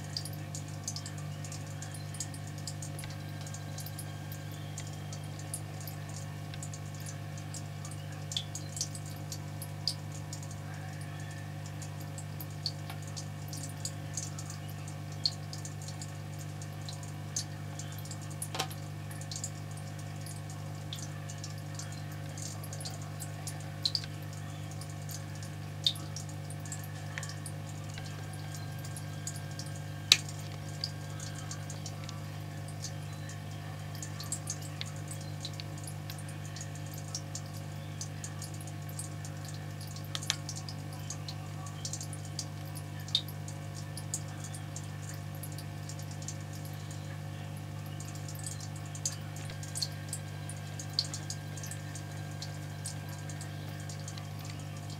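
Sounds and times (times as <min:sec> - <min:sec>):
aquarium pump humming: 0:00.0 - 0:54.9
small clicks and drips: 0:00.0 - 0:54.9
water trickling: 0:00.0 - 0:54.9.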